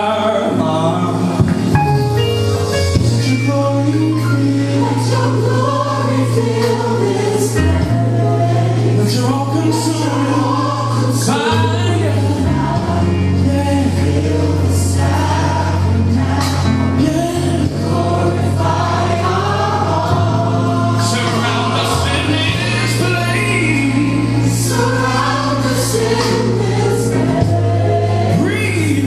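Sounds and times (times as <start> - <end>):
choir singing gospel song: 0.0 - 29.0
held bass line: 0.5 - 29.0.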